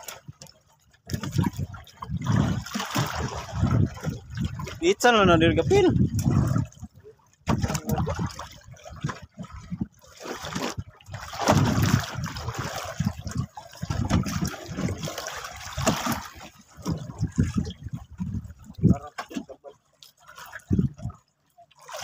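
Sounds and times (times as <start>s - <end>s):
water splashing and sloshing: 0.0s - 22.0s.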